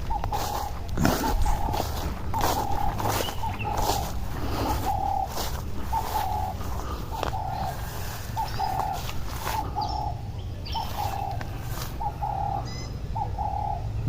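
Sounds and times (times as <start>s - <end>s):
bird chirps: 0.0s - 14.0s
dove cooing: 0.0s - 14.0s
low steady rumble: 0.0s - 14.0s.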